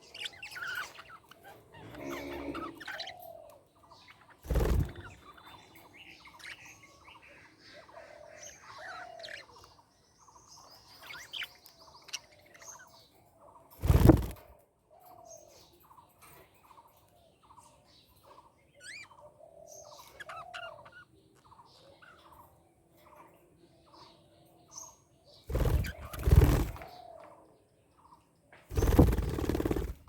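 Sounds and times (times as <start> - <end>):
budgerigars chirping and chattering: 0.0 - 14.4, 15.4 - 27.2, 28.7 - 30.0.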